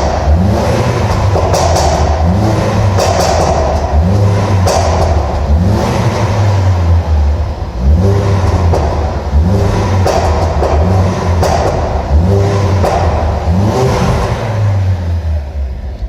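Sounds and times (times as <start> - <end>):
car engine revving: 0.0 - 16.0
exhaust crackles and pops: 0.0 - 16.0.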